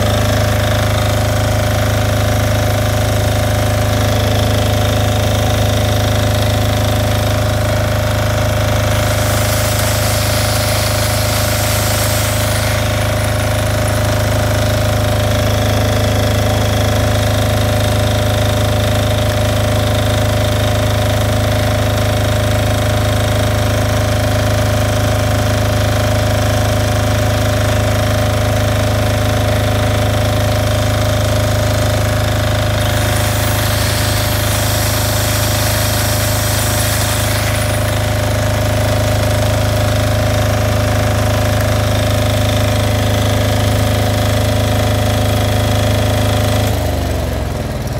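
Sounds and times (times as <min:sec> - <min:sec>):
diesel generator running: 0:00.0 - 0:47.9.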